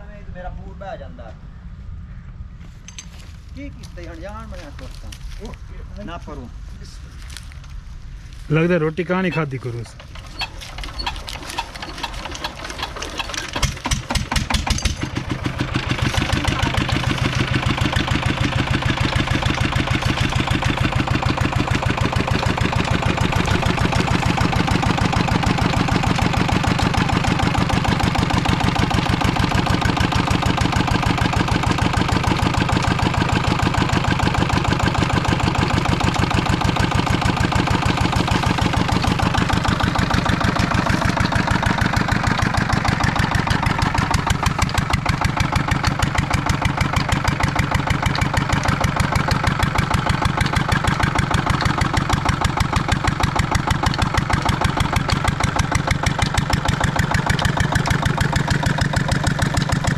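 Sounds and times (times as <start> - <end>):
diesel engine starting and running: 7.2 - 59.9.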